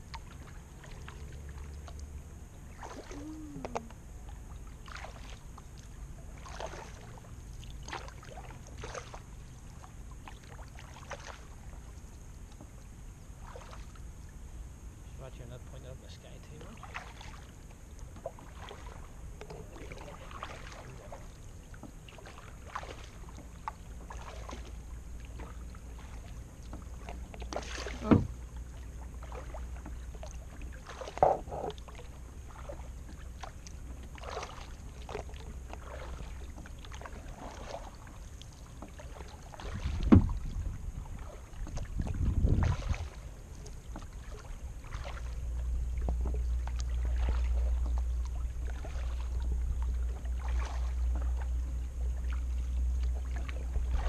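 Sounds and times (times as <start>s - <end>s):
water dripping from paddle: 0.0s - 14.4s, 16.8s - 54.0s
kayak paddle strokes in water: 0.0s - 14.8s, 15.4s - 54.0s
knocks and splashes: 2.7s - 4.0s, 4.8s - 12.8s, 13.4s - 14.0s, 16.6s - 54.0s.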